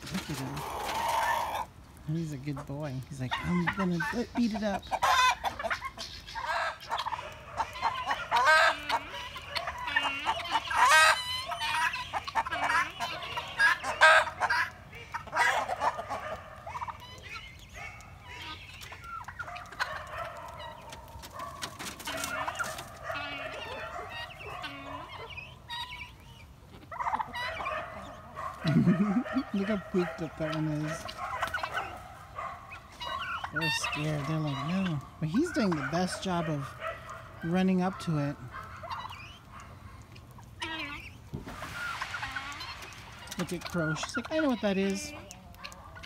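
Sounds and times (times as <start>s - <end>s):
chickens and turkeys calling: 0.0s - 46.0s.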